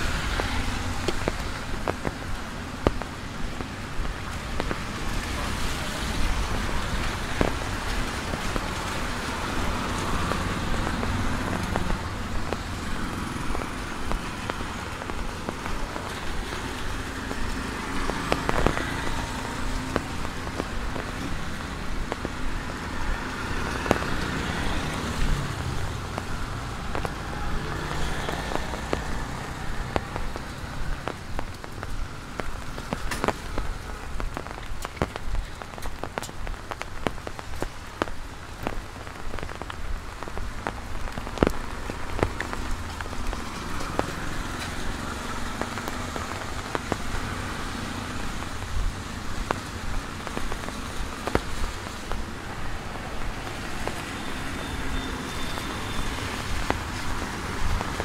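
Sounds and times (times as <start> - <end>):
cars passing on wet street: 0.0 - 58.0
rain on a wet road: 0.0 - 58.0.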